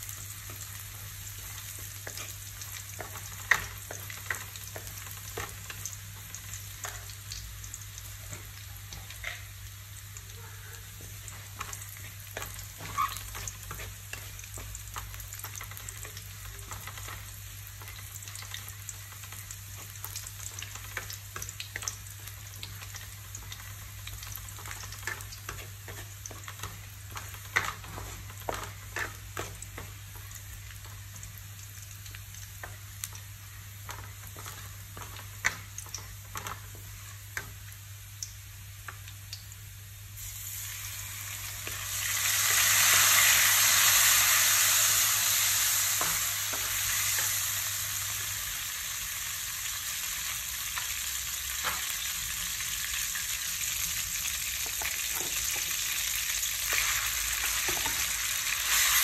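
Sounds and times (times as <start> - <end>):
garlic frying in a wok: 0.0 - 59.0.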